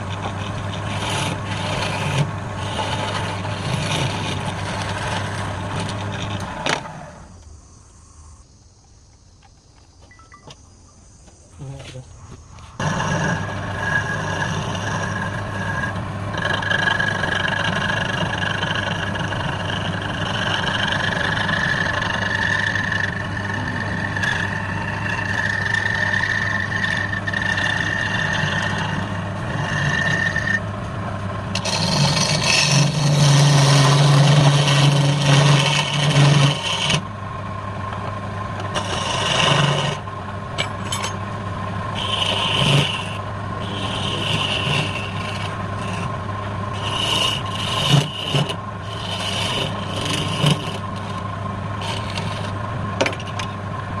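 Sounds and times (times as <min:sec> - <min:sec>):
tool cutting spinning wood: 0:00.0 - 0:07.4, 0:12.7 - 0:53.6
wood lathe motor hum: 0:00.0 - 0:07.4, 0:12.7 - 0:54.0.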